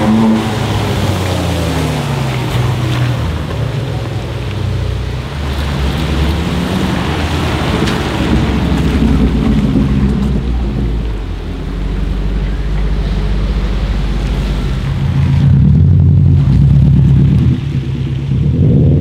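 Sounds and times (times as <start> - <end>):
tyres hissing on wet road: 0.0 - 15.8
car exhaust rumbling past: 0.0 - 19.0
sports car engine passing: 0.0 - 19.0.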